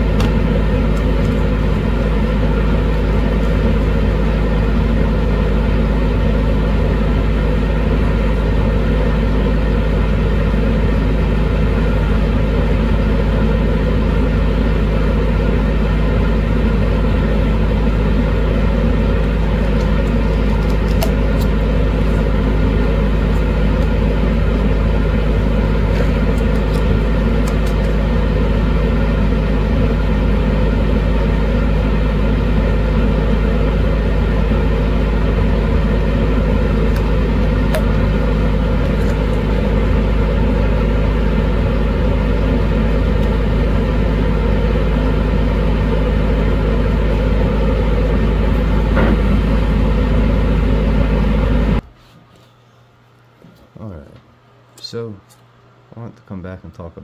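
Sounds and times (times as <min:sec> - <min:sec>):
blower rushing air with hum: 0:00.0 - 0:52.0.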